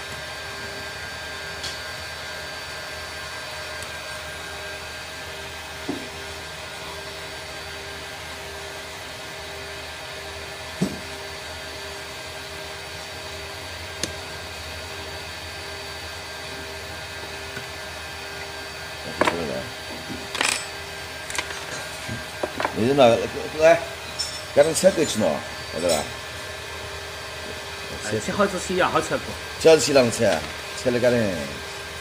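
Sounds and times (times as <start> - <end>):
whirring machine hum: 0.0 - 32.0.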